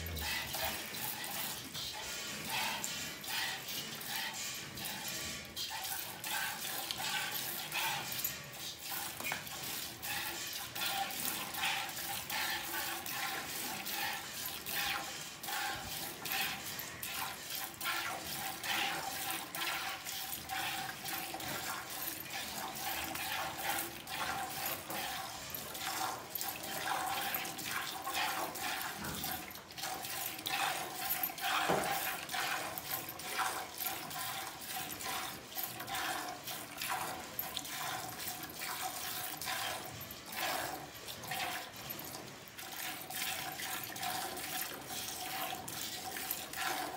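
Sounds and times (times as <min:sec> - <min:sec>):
milk squirting into steel pail: 0:00.0 - 0:46.9.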